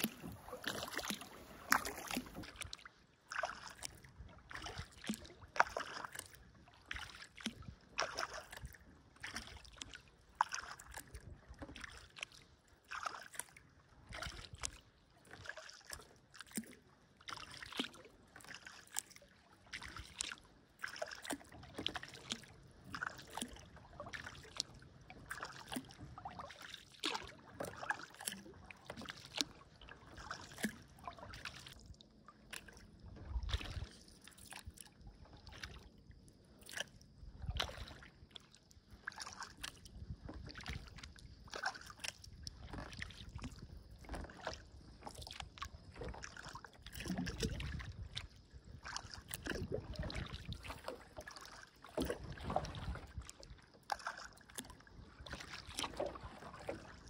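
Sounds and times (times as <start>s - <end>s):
paddle splashing in water: 0.0s - 57.0s
water trickling off paddle: 0.0s - 57.0s.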